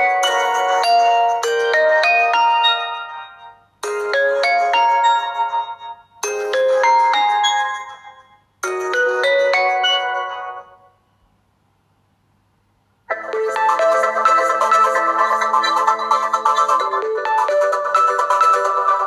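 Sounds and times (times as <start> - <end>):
rising chiming ringtone: 0.0 - 10.9, 13.1 - 19.0
ringtone with sustained chords: 0.0 - 11.2, 13.1 - 19.0.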